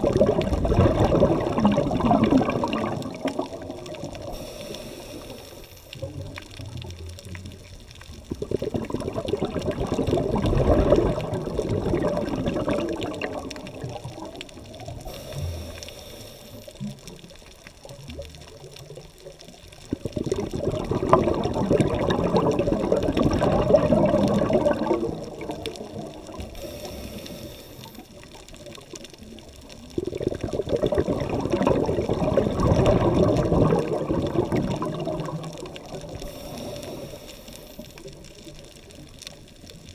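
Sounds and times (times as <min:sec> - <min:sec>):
underwater exhaled bubbles: 0:00.0 - 0:39.9.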